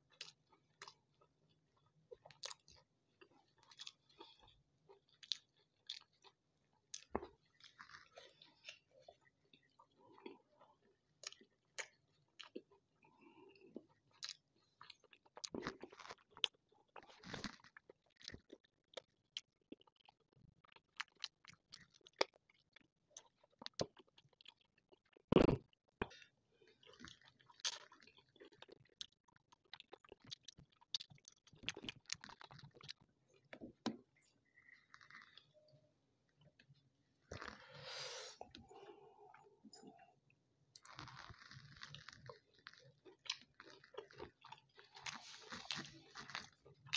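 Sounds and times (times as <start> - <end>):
close chewing and biting: 2.1 - 33.8, 40.7 - 46.9.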